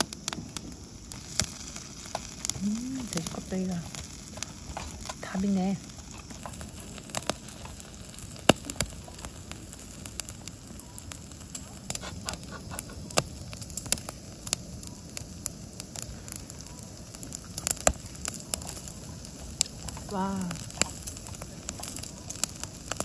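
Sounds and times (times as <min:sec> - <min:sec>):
pork skin sizzling and crackling: 0:00.0 - 0:23.0
sharp pops: 0:00.0 - 0:23.0.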